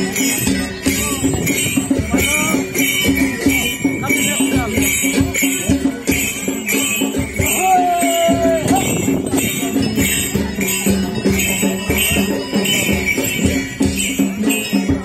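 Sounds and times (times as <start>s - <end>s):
folk dance music: 0.0s - 15.0s
jingling: 0.0s - 15.0s
steady drum beat: 0.0s - 15.0s.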